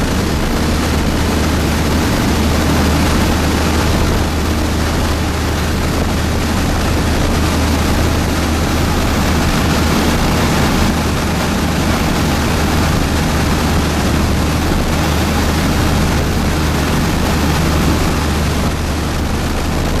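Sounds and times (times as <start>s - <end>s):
strong wind rushing: 0.0s - 20.0s
wind rumbling on microphone: 0.0s - 20.0s.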